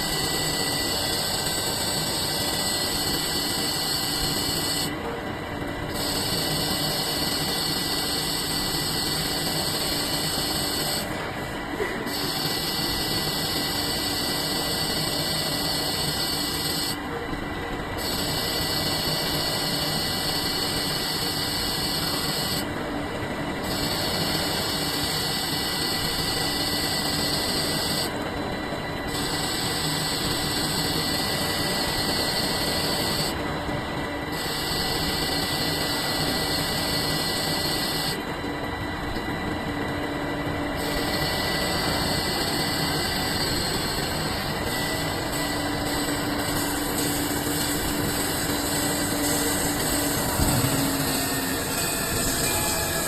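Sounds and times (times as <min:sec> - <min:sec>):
machine drone with high hiss: 0:00.0 - 0:53.0.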